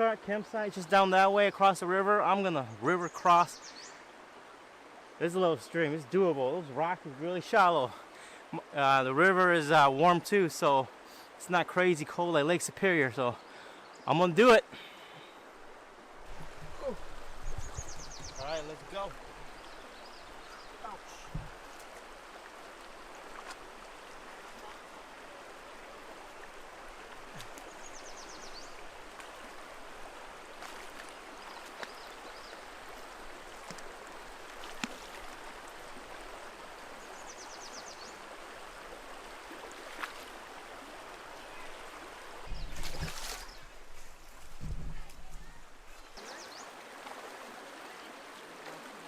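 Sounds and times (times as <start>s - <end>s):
rocky stream running: 0.0s - 49.0s.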